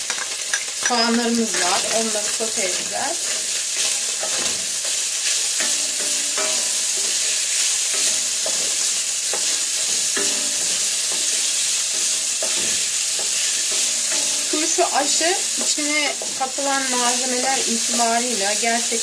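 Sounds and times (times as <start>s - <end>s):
onions and meat sizzling in oil: 0.0s - 19.0s.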